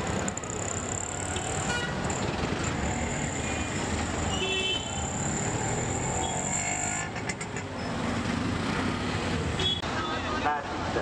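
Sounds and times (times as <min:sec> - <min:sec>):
auto-rickshaw and car engines: 0:00.0 - 0:11.0.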